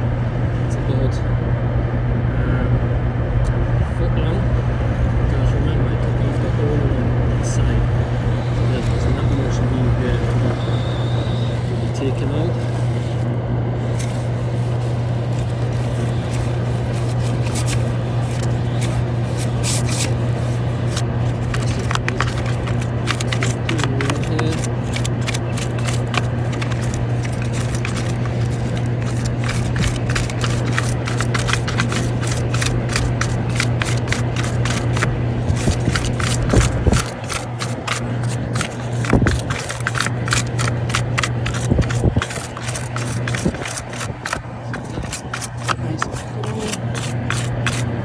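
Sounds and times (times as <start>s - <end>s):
motor hum: 0.0s - 48.0s
tool scraping inside duct: 6.0s - 48.0s.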